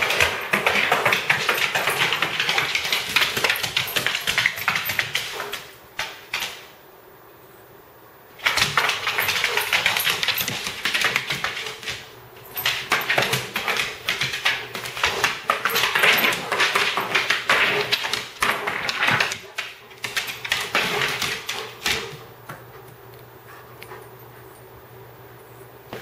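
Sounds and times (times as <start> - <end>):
dog claws clicking on wood floor: 0.0 - 6.7, 8.4 - 24.7.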